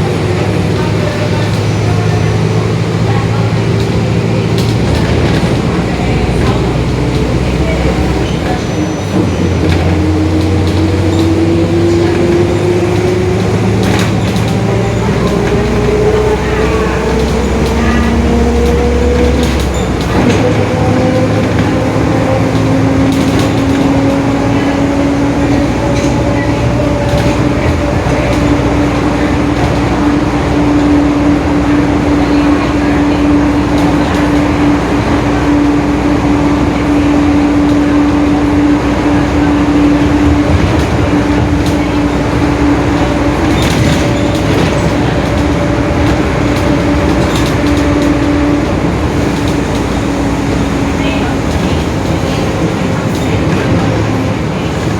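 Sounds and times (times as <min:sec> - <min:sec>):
bus differential gear whine: 0:00.0 - 0:54.9
engine and road noise: 0:00.0 - 0:54.9.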